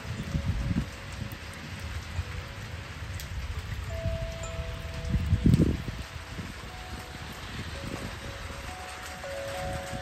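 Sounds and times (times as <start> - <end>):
tube wind chimes ringing: 0.0 - 10.0
wind rumbling on microphone: 0.0 - 10.0.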